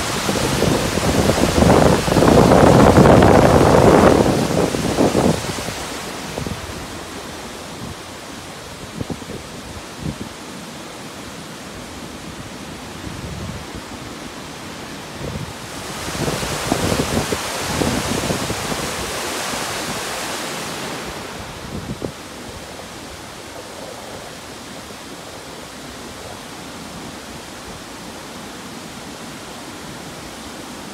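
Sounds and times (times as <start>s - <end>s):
rushing floodwater: 0.0s - 30.9s.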